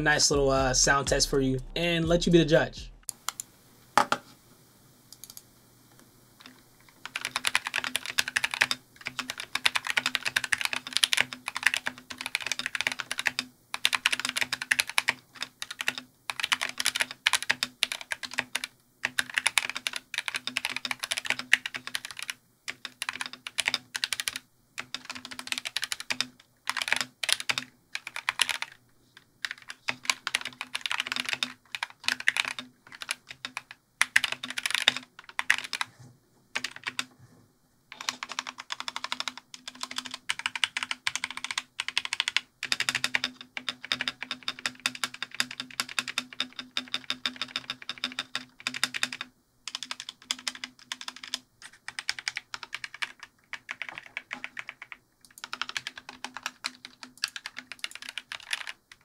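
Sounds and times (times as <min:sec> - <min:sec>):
mechanical keyboard typing: 0:06.4 - 0:35.9, 0:36.5 - 0:37.1, 0:37.9 - 0:59.0.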